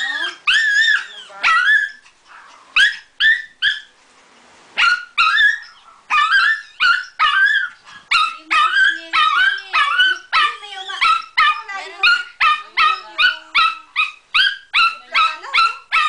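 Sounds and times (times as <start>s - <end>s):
small dog yipping: 0.0s - 3.9s, 4.8s - 16.0s.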